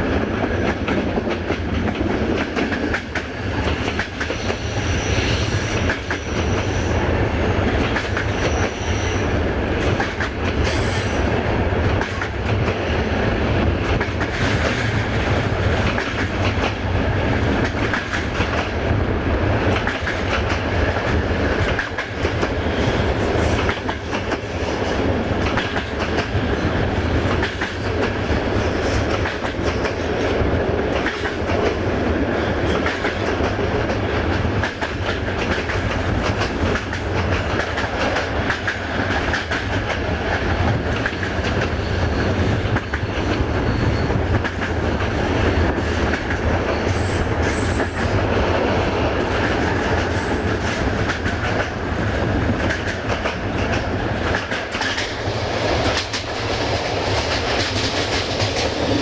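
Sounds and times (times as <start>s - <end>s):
train coach rumbling on track: 0.0s - 59.0s.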